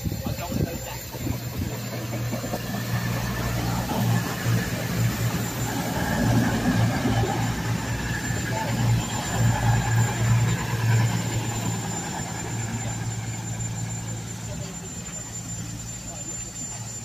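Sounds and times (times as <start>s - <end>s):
diesel train engines humming: 0.0s - 17.0s.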